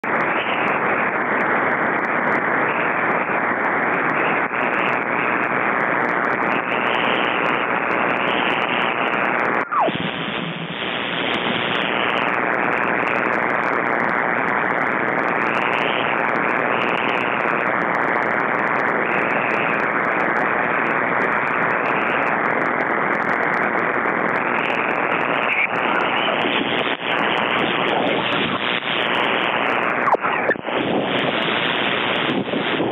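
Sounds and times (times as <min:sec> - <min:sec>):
loud steady electrical hiss: 0:00.0 - 0:32.9.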